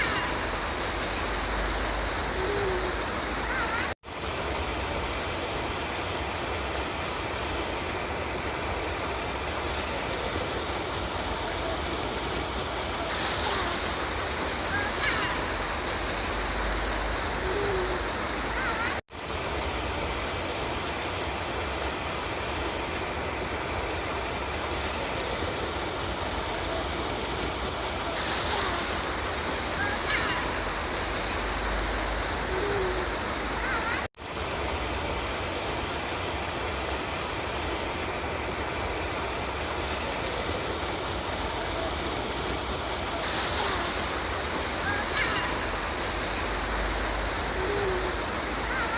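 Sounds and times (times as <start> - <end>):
river water flowing: 0.0 - 48.9.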